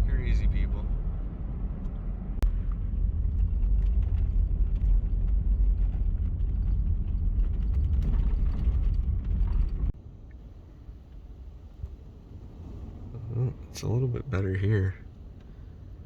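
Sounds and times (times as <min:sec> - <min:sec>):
van engine and road rumble: 0:00.0 - 0:16.0.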